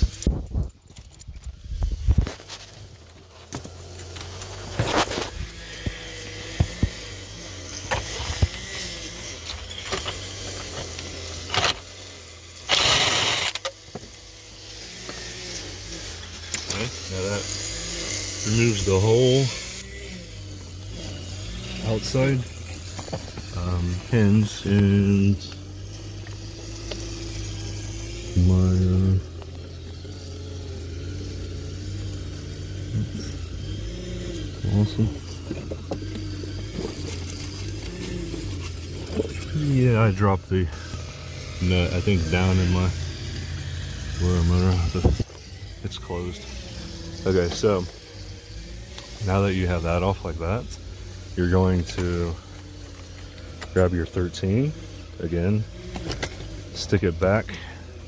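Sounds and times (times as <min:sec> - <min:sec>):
engine humming steadily: 0:00.0 - 0:58.0
power drill running: 0:00.0 - 0:58.0.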